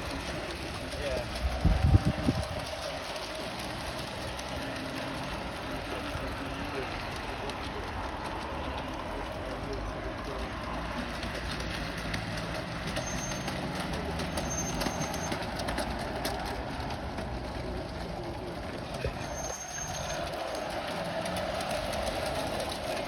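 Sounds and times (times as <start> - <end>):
model locomotive running on track: 0.0 - 23.0.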